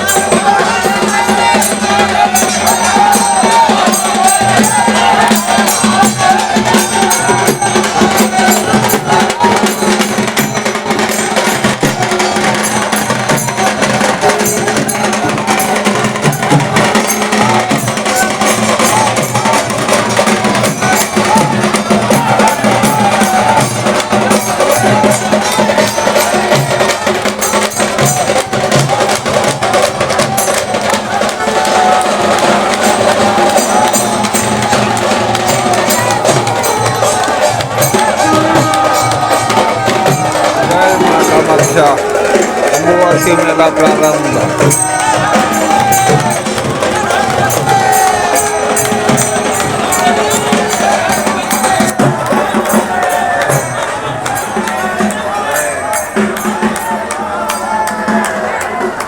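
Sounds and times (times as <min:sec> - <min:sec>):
loud music with rhythmic percussion: 0:00.0 - 0:59.0.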